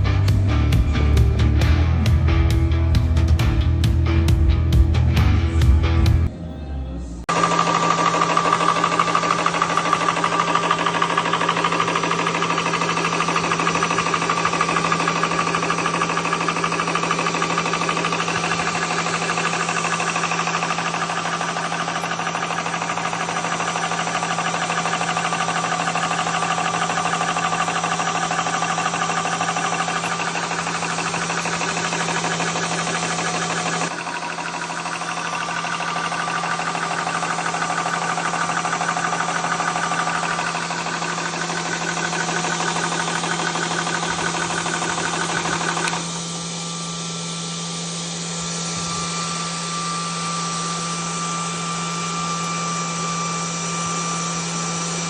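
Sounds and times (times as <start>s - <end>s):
air compressor running: 0.0s - 6.5s, 7.1s - 55.0s.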